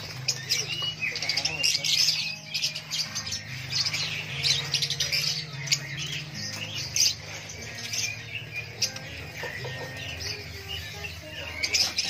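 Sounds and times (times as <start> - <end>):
lovebirds chirping and squawking: 0.0 - 12.0.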